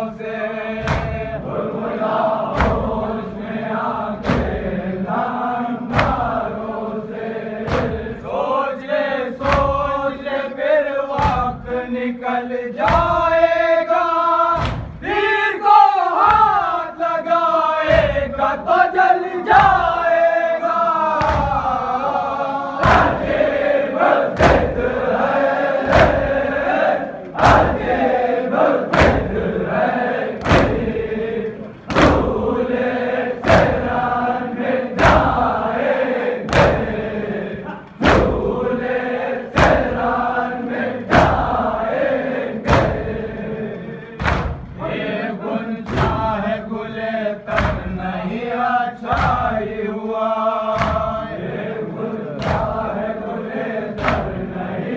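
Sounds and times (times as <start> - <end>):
mourners chanting together: 0.0 - 54.9
rhythmic chest-beating thuds: 0.0 - 54.9.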